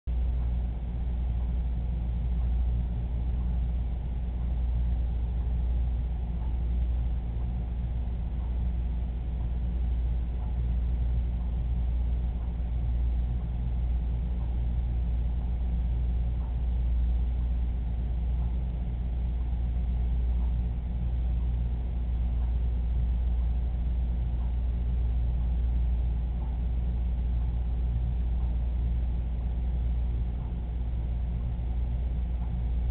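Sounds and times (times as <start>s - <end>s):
low hum with faint hiss: 0.1s - 32.9s.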